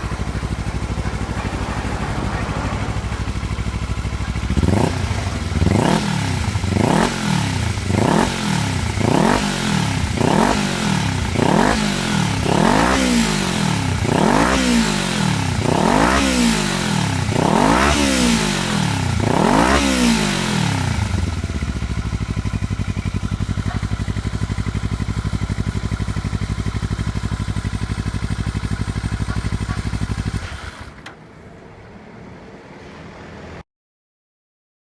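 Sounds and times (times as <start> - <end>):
motorcycle engine revving and idling: 0.0 - 31.2.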